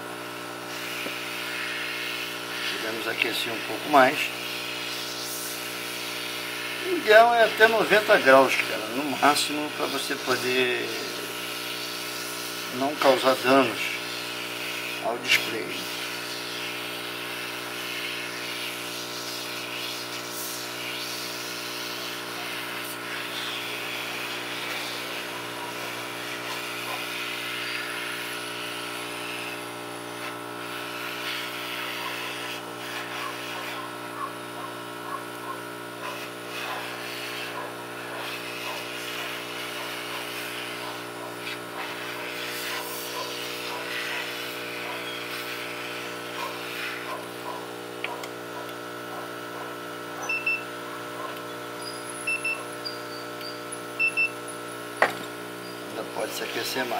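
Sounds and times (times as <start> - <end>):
hot air blower motor hum: 0.0 - 56.9.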